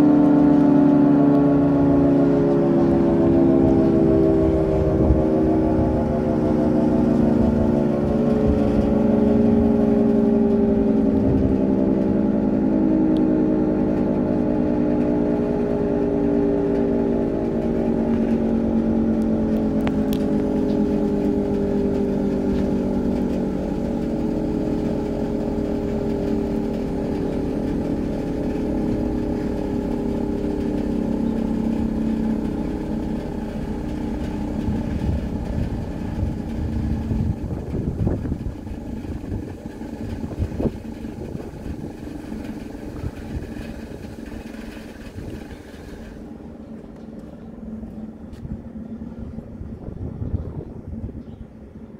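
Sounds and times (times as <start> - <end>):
dual-tone siren winding down: 0.0 - 45.6.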